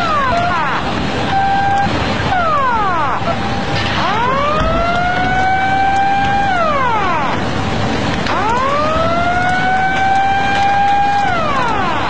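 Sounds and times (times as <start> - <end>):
warning siren wailing: 0.0 - 12.0.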